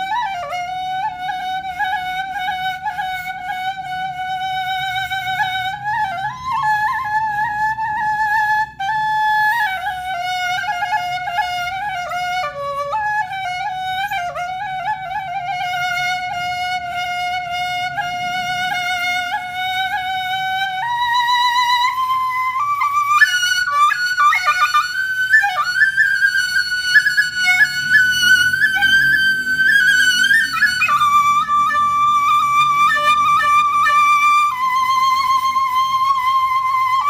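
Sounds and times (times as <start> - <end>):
solo flute melody: 0.0 - 37.0.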